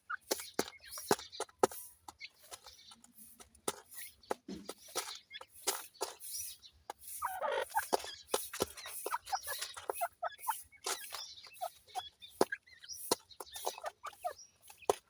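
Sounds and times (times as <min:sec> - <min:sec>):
chicks calling: 0:00.0 - 0:15.0
sharp clicking taps: 0:00.2 - 0:15.0.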